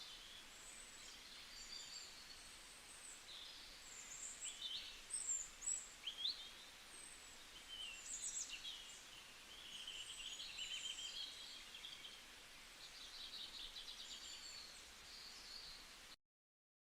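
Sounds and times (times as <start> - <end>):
songbirds chirping and trilling: 0.0 - 16.1
faint steady hiss: 0.0 - 16.2.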